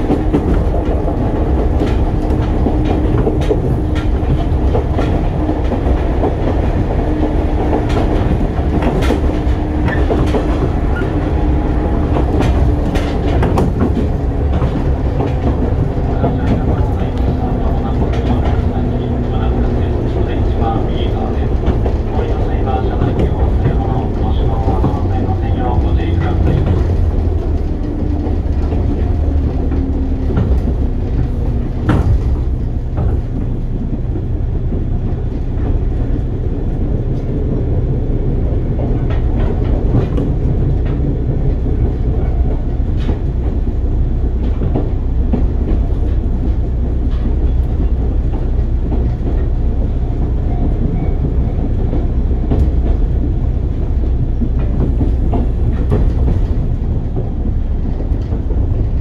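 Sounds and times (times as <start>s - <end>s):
rail joint clacks: 0.0s - 59.0s
train wheels rumbling on rail: 0.0s - 59.0s.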